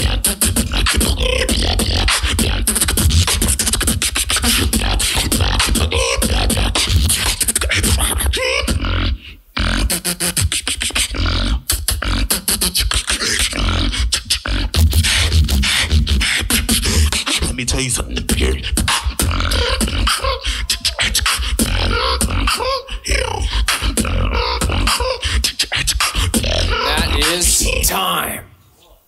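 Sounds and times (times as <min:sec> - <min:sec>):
beatboxing vocal percussion: 0:00.0 - 0:29.0.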